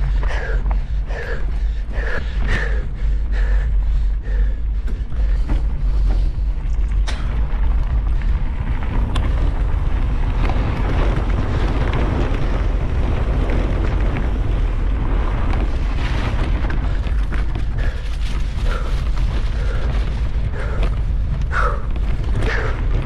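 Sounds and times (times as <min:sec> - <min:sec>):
bike tyres crunching over gravel: 0:00.0 - 0:23.0
wind buffeting microphone: 0:00.0 - 0:23.0.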